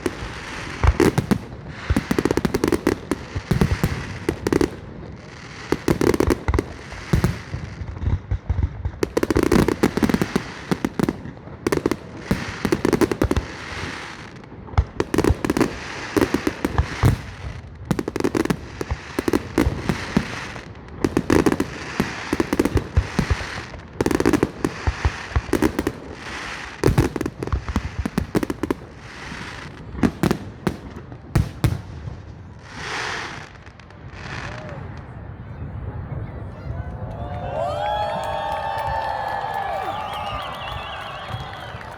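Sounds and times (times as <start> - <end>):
fireworks crackling: 0.0 - 35.2, 37.9 - 41.9
fireworks bangs and booms: 0.0 - 36.8, 37.9 - 41.9.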